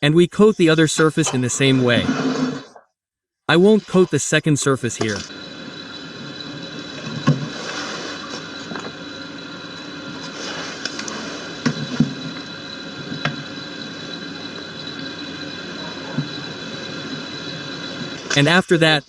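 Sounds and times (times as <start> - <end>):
steady background hum: 3.5 - 19.0.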